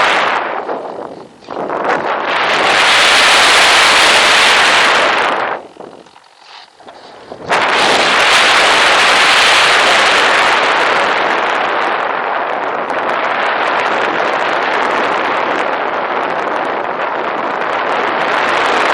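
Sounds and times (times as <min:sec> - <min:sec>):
rushing airflow and motor: 0:00.0 - 0:18.9.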